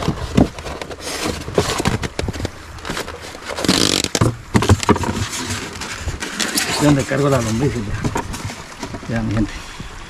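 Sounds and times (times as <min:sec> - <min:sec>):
rustling and scraping: 0:00.0 - 0:10.0.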